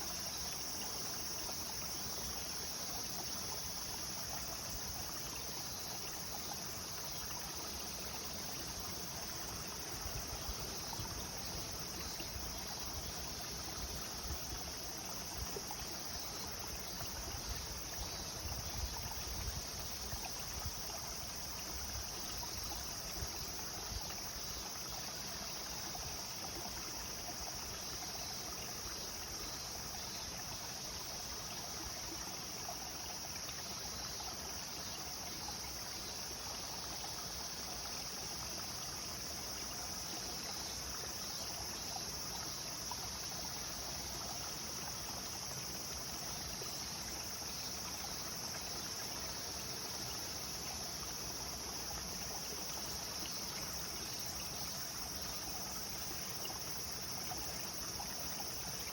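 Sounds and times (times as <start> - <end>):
high-pitched hiss: 0.0 - 58.9.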